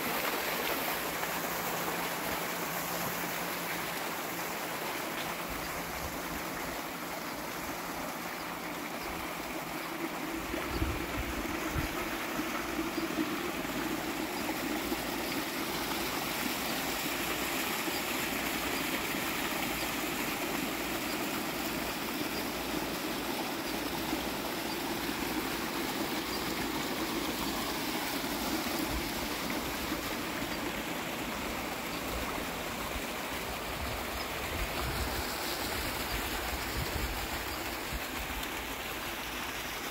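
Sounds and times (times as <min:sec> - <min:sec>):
stream splashing over stones: 0:00.0 - 0:39.9.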